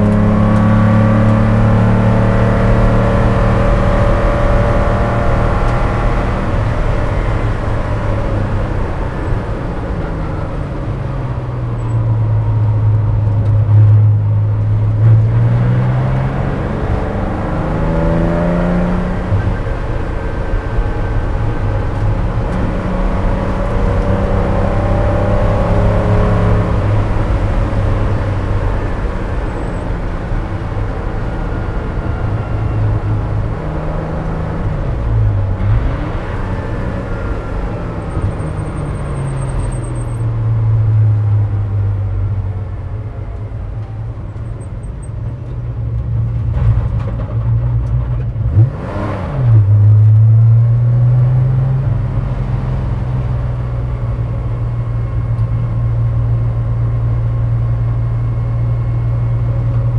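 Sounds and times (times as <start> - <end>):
race car engine from cockpit: 0.0 - 59.9.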